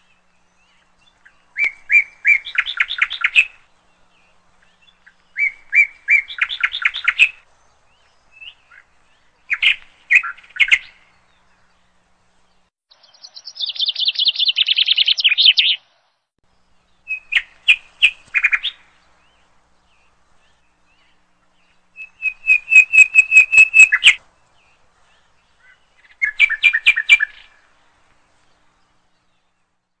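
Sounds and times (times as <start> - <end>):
small bird chirping: 0.0 - 12.0, 12.6 - 29.8.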